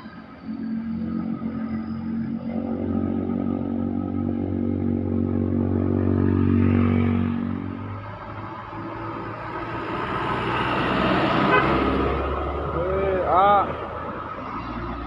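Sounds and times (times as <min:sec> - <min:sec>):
vehicle engine passing by: 0:00.0 - 0:15.0.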